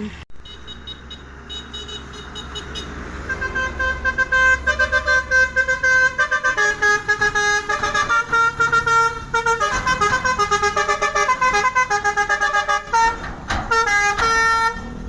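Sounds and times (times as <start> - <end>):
musical air horn melody: 0.4 - 15.0.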